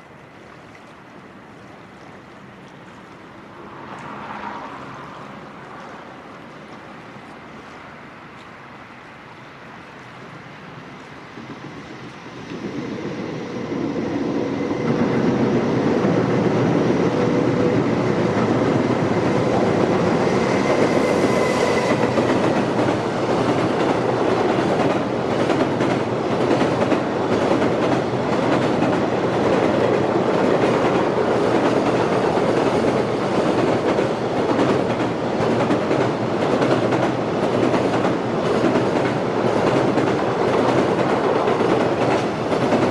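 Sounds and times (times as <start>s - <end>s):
freight train on steel bridge: 0.0s - 42.9s.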